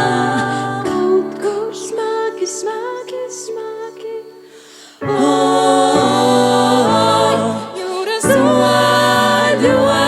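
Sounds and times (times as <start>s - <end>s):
vocal group singing in harmony: 0.0s - 10.0s.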